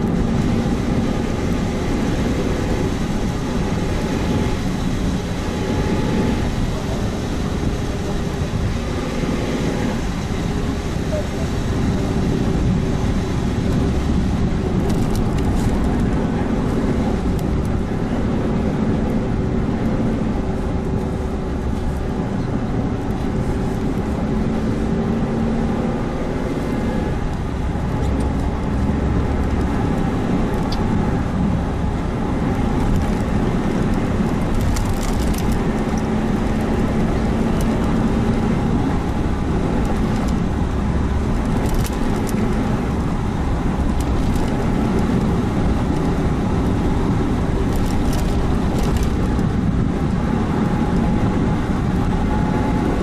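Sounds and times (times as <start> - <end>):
car engine drone: 0.0 - 53.0
road and tyre rumble: 0.0 - 53.0.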